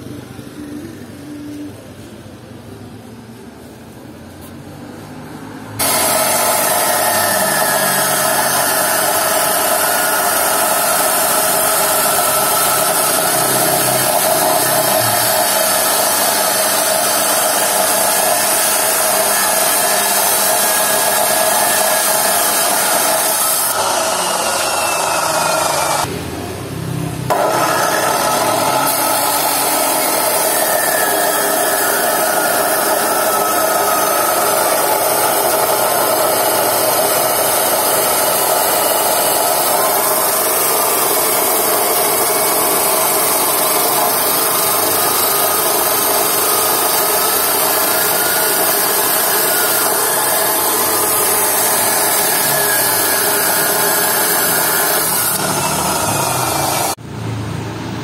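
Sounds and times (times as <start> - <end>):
power tool grinding steel: 5.8 - 26.1, 27.3 - 57.0.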